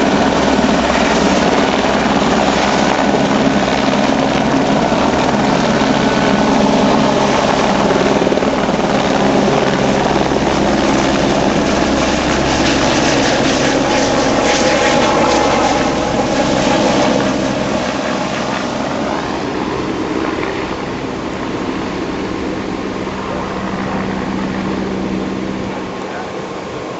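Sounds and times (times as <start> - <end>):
helicopter rotor and engine: 0.0 - 26.9.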